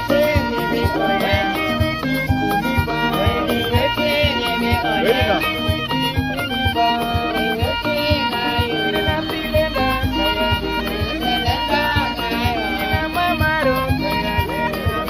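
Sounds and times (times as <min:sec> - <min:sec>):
music with steady beat and fiddle: 0:00.0 - 0:15.0.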